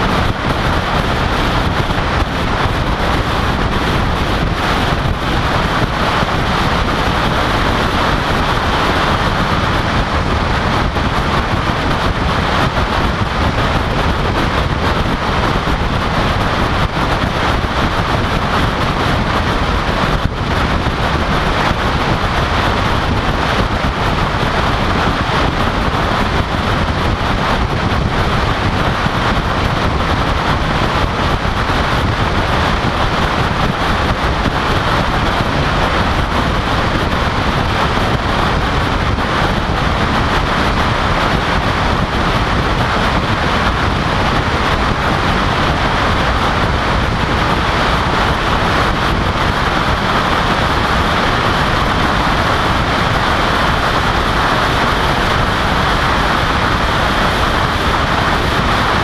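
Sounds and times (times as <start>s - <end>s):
air rushing over camera: 0.0s - 59.0s.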